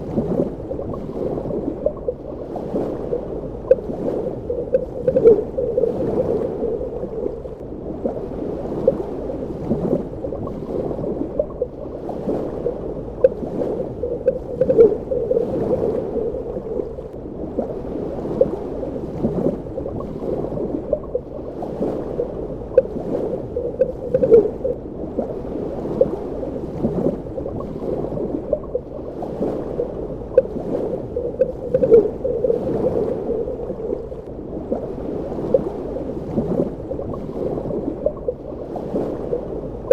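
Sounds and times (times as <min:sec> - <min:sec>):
underwater gurgling and bubbling: 0:00.0 - 0:39.9.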